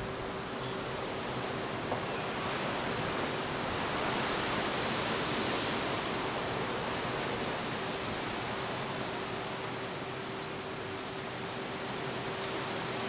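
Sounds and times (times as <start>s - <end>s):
strong wind through trees: 0.0s - 13.0s.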